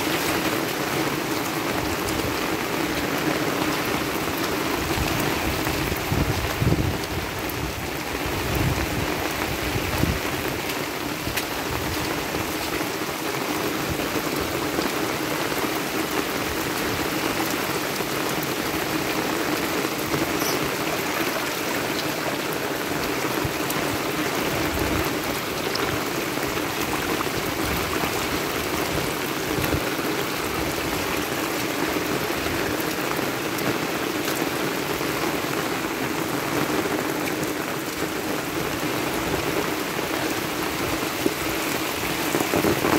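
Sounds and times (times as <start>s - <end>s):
heavy rain on dirt road: 0.0s - 42.9s
runoff water streaming: 0.0s - 42.9s.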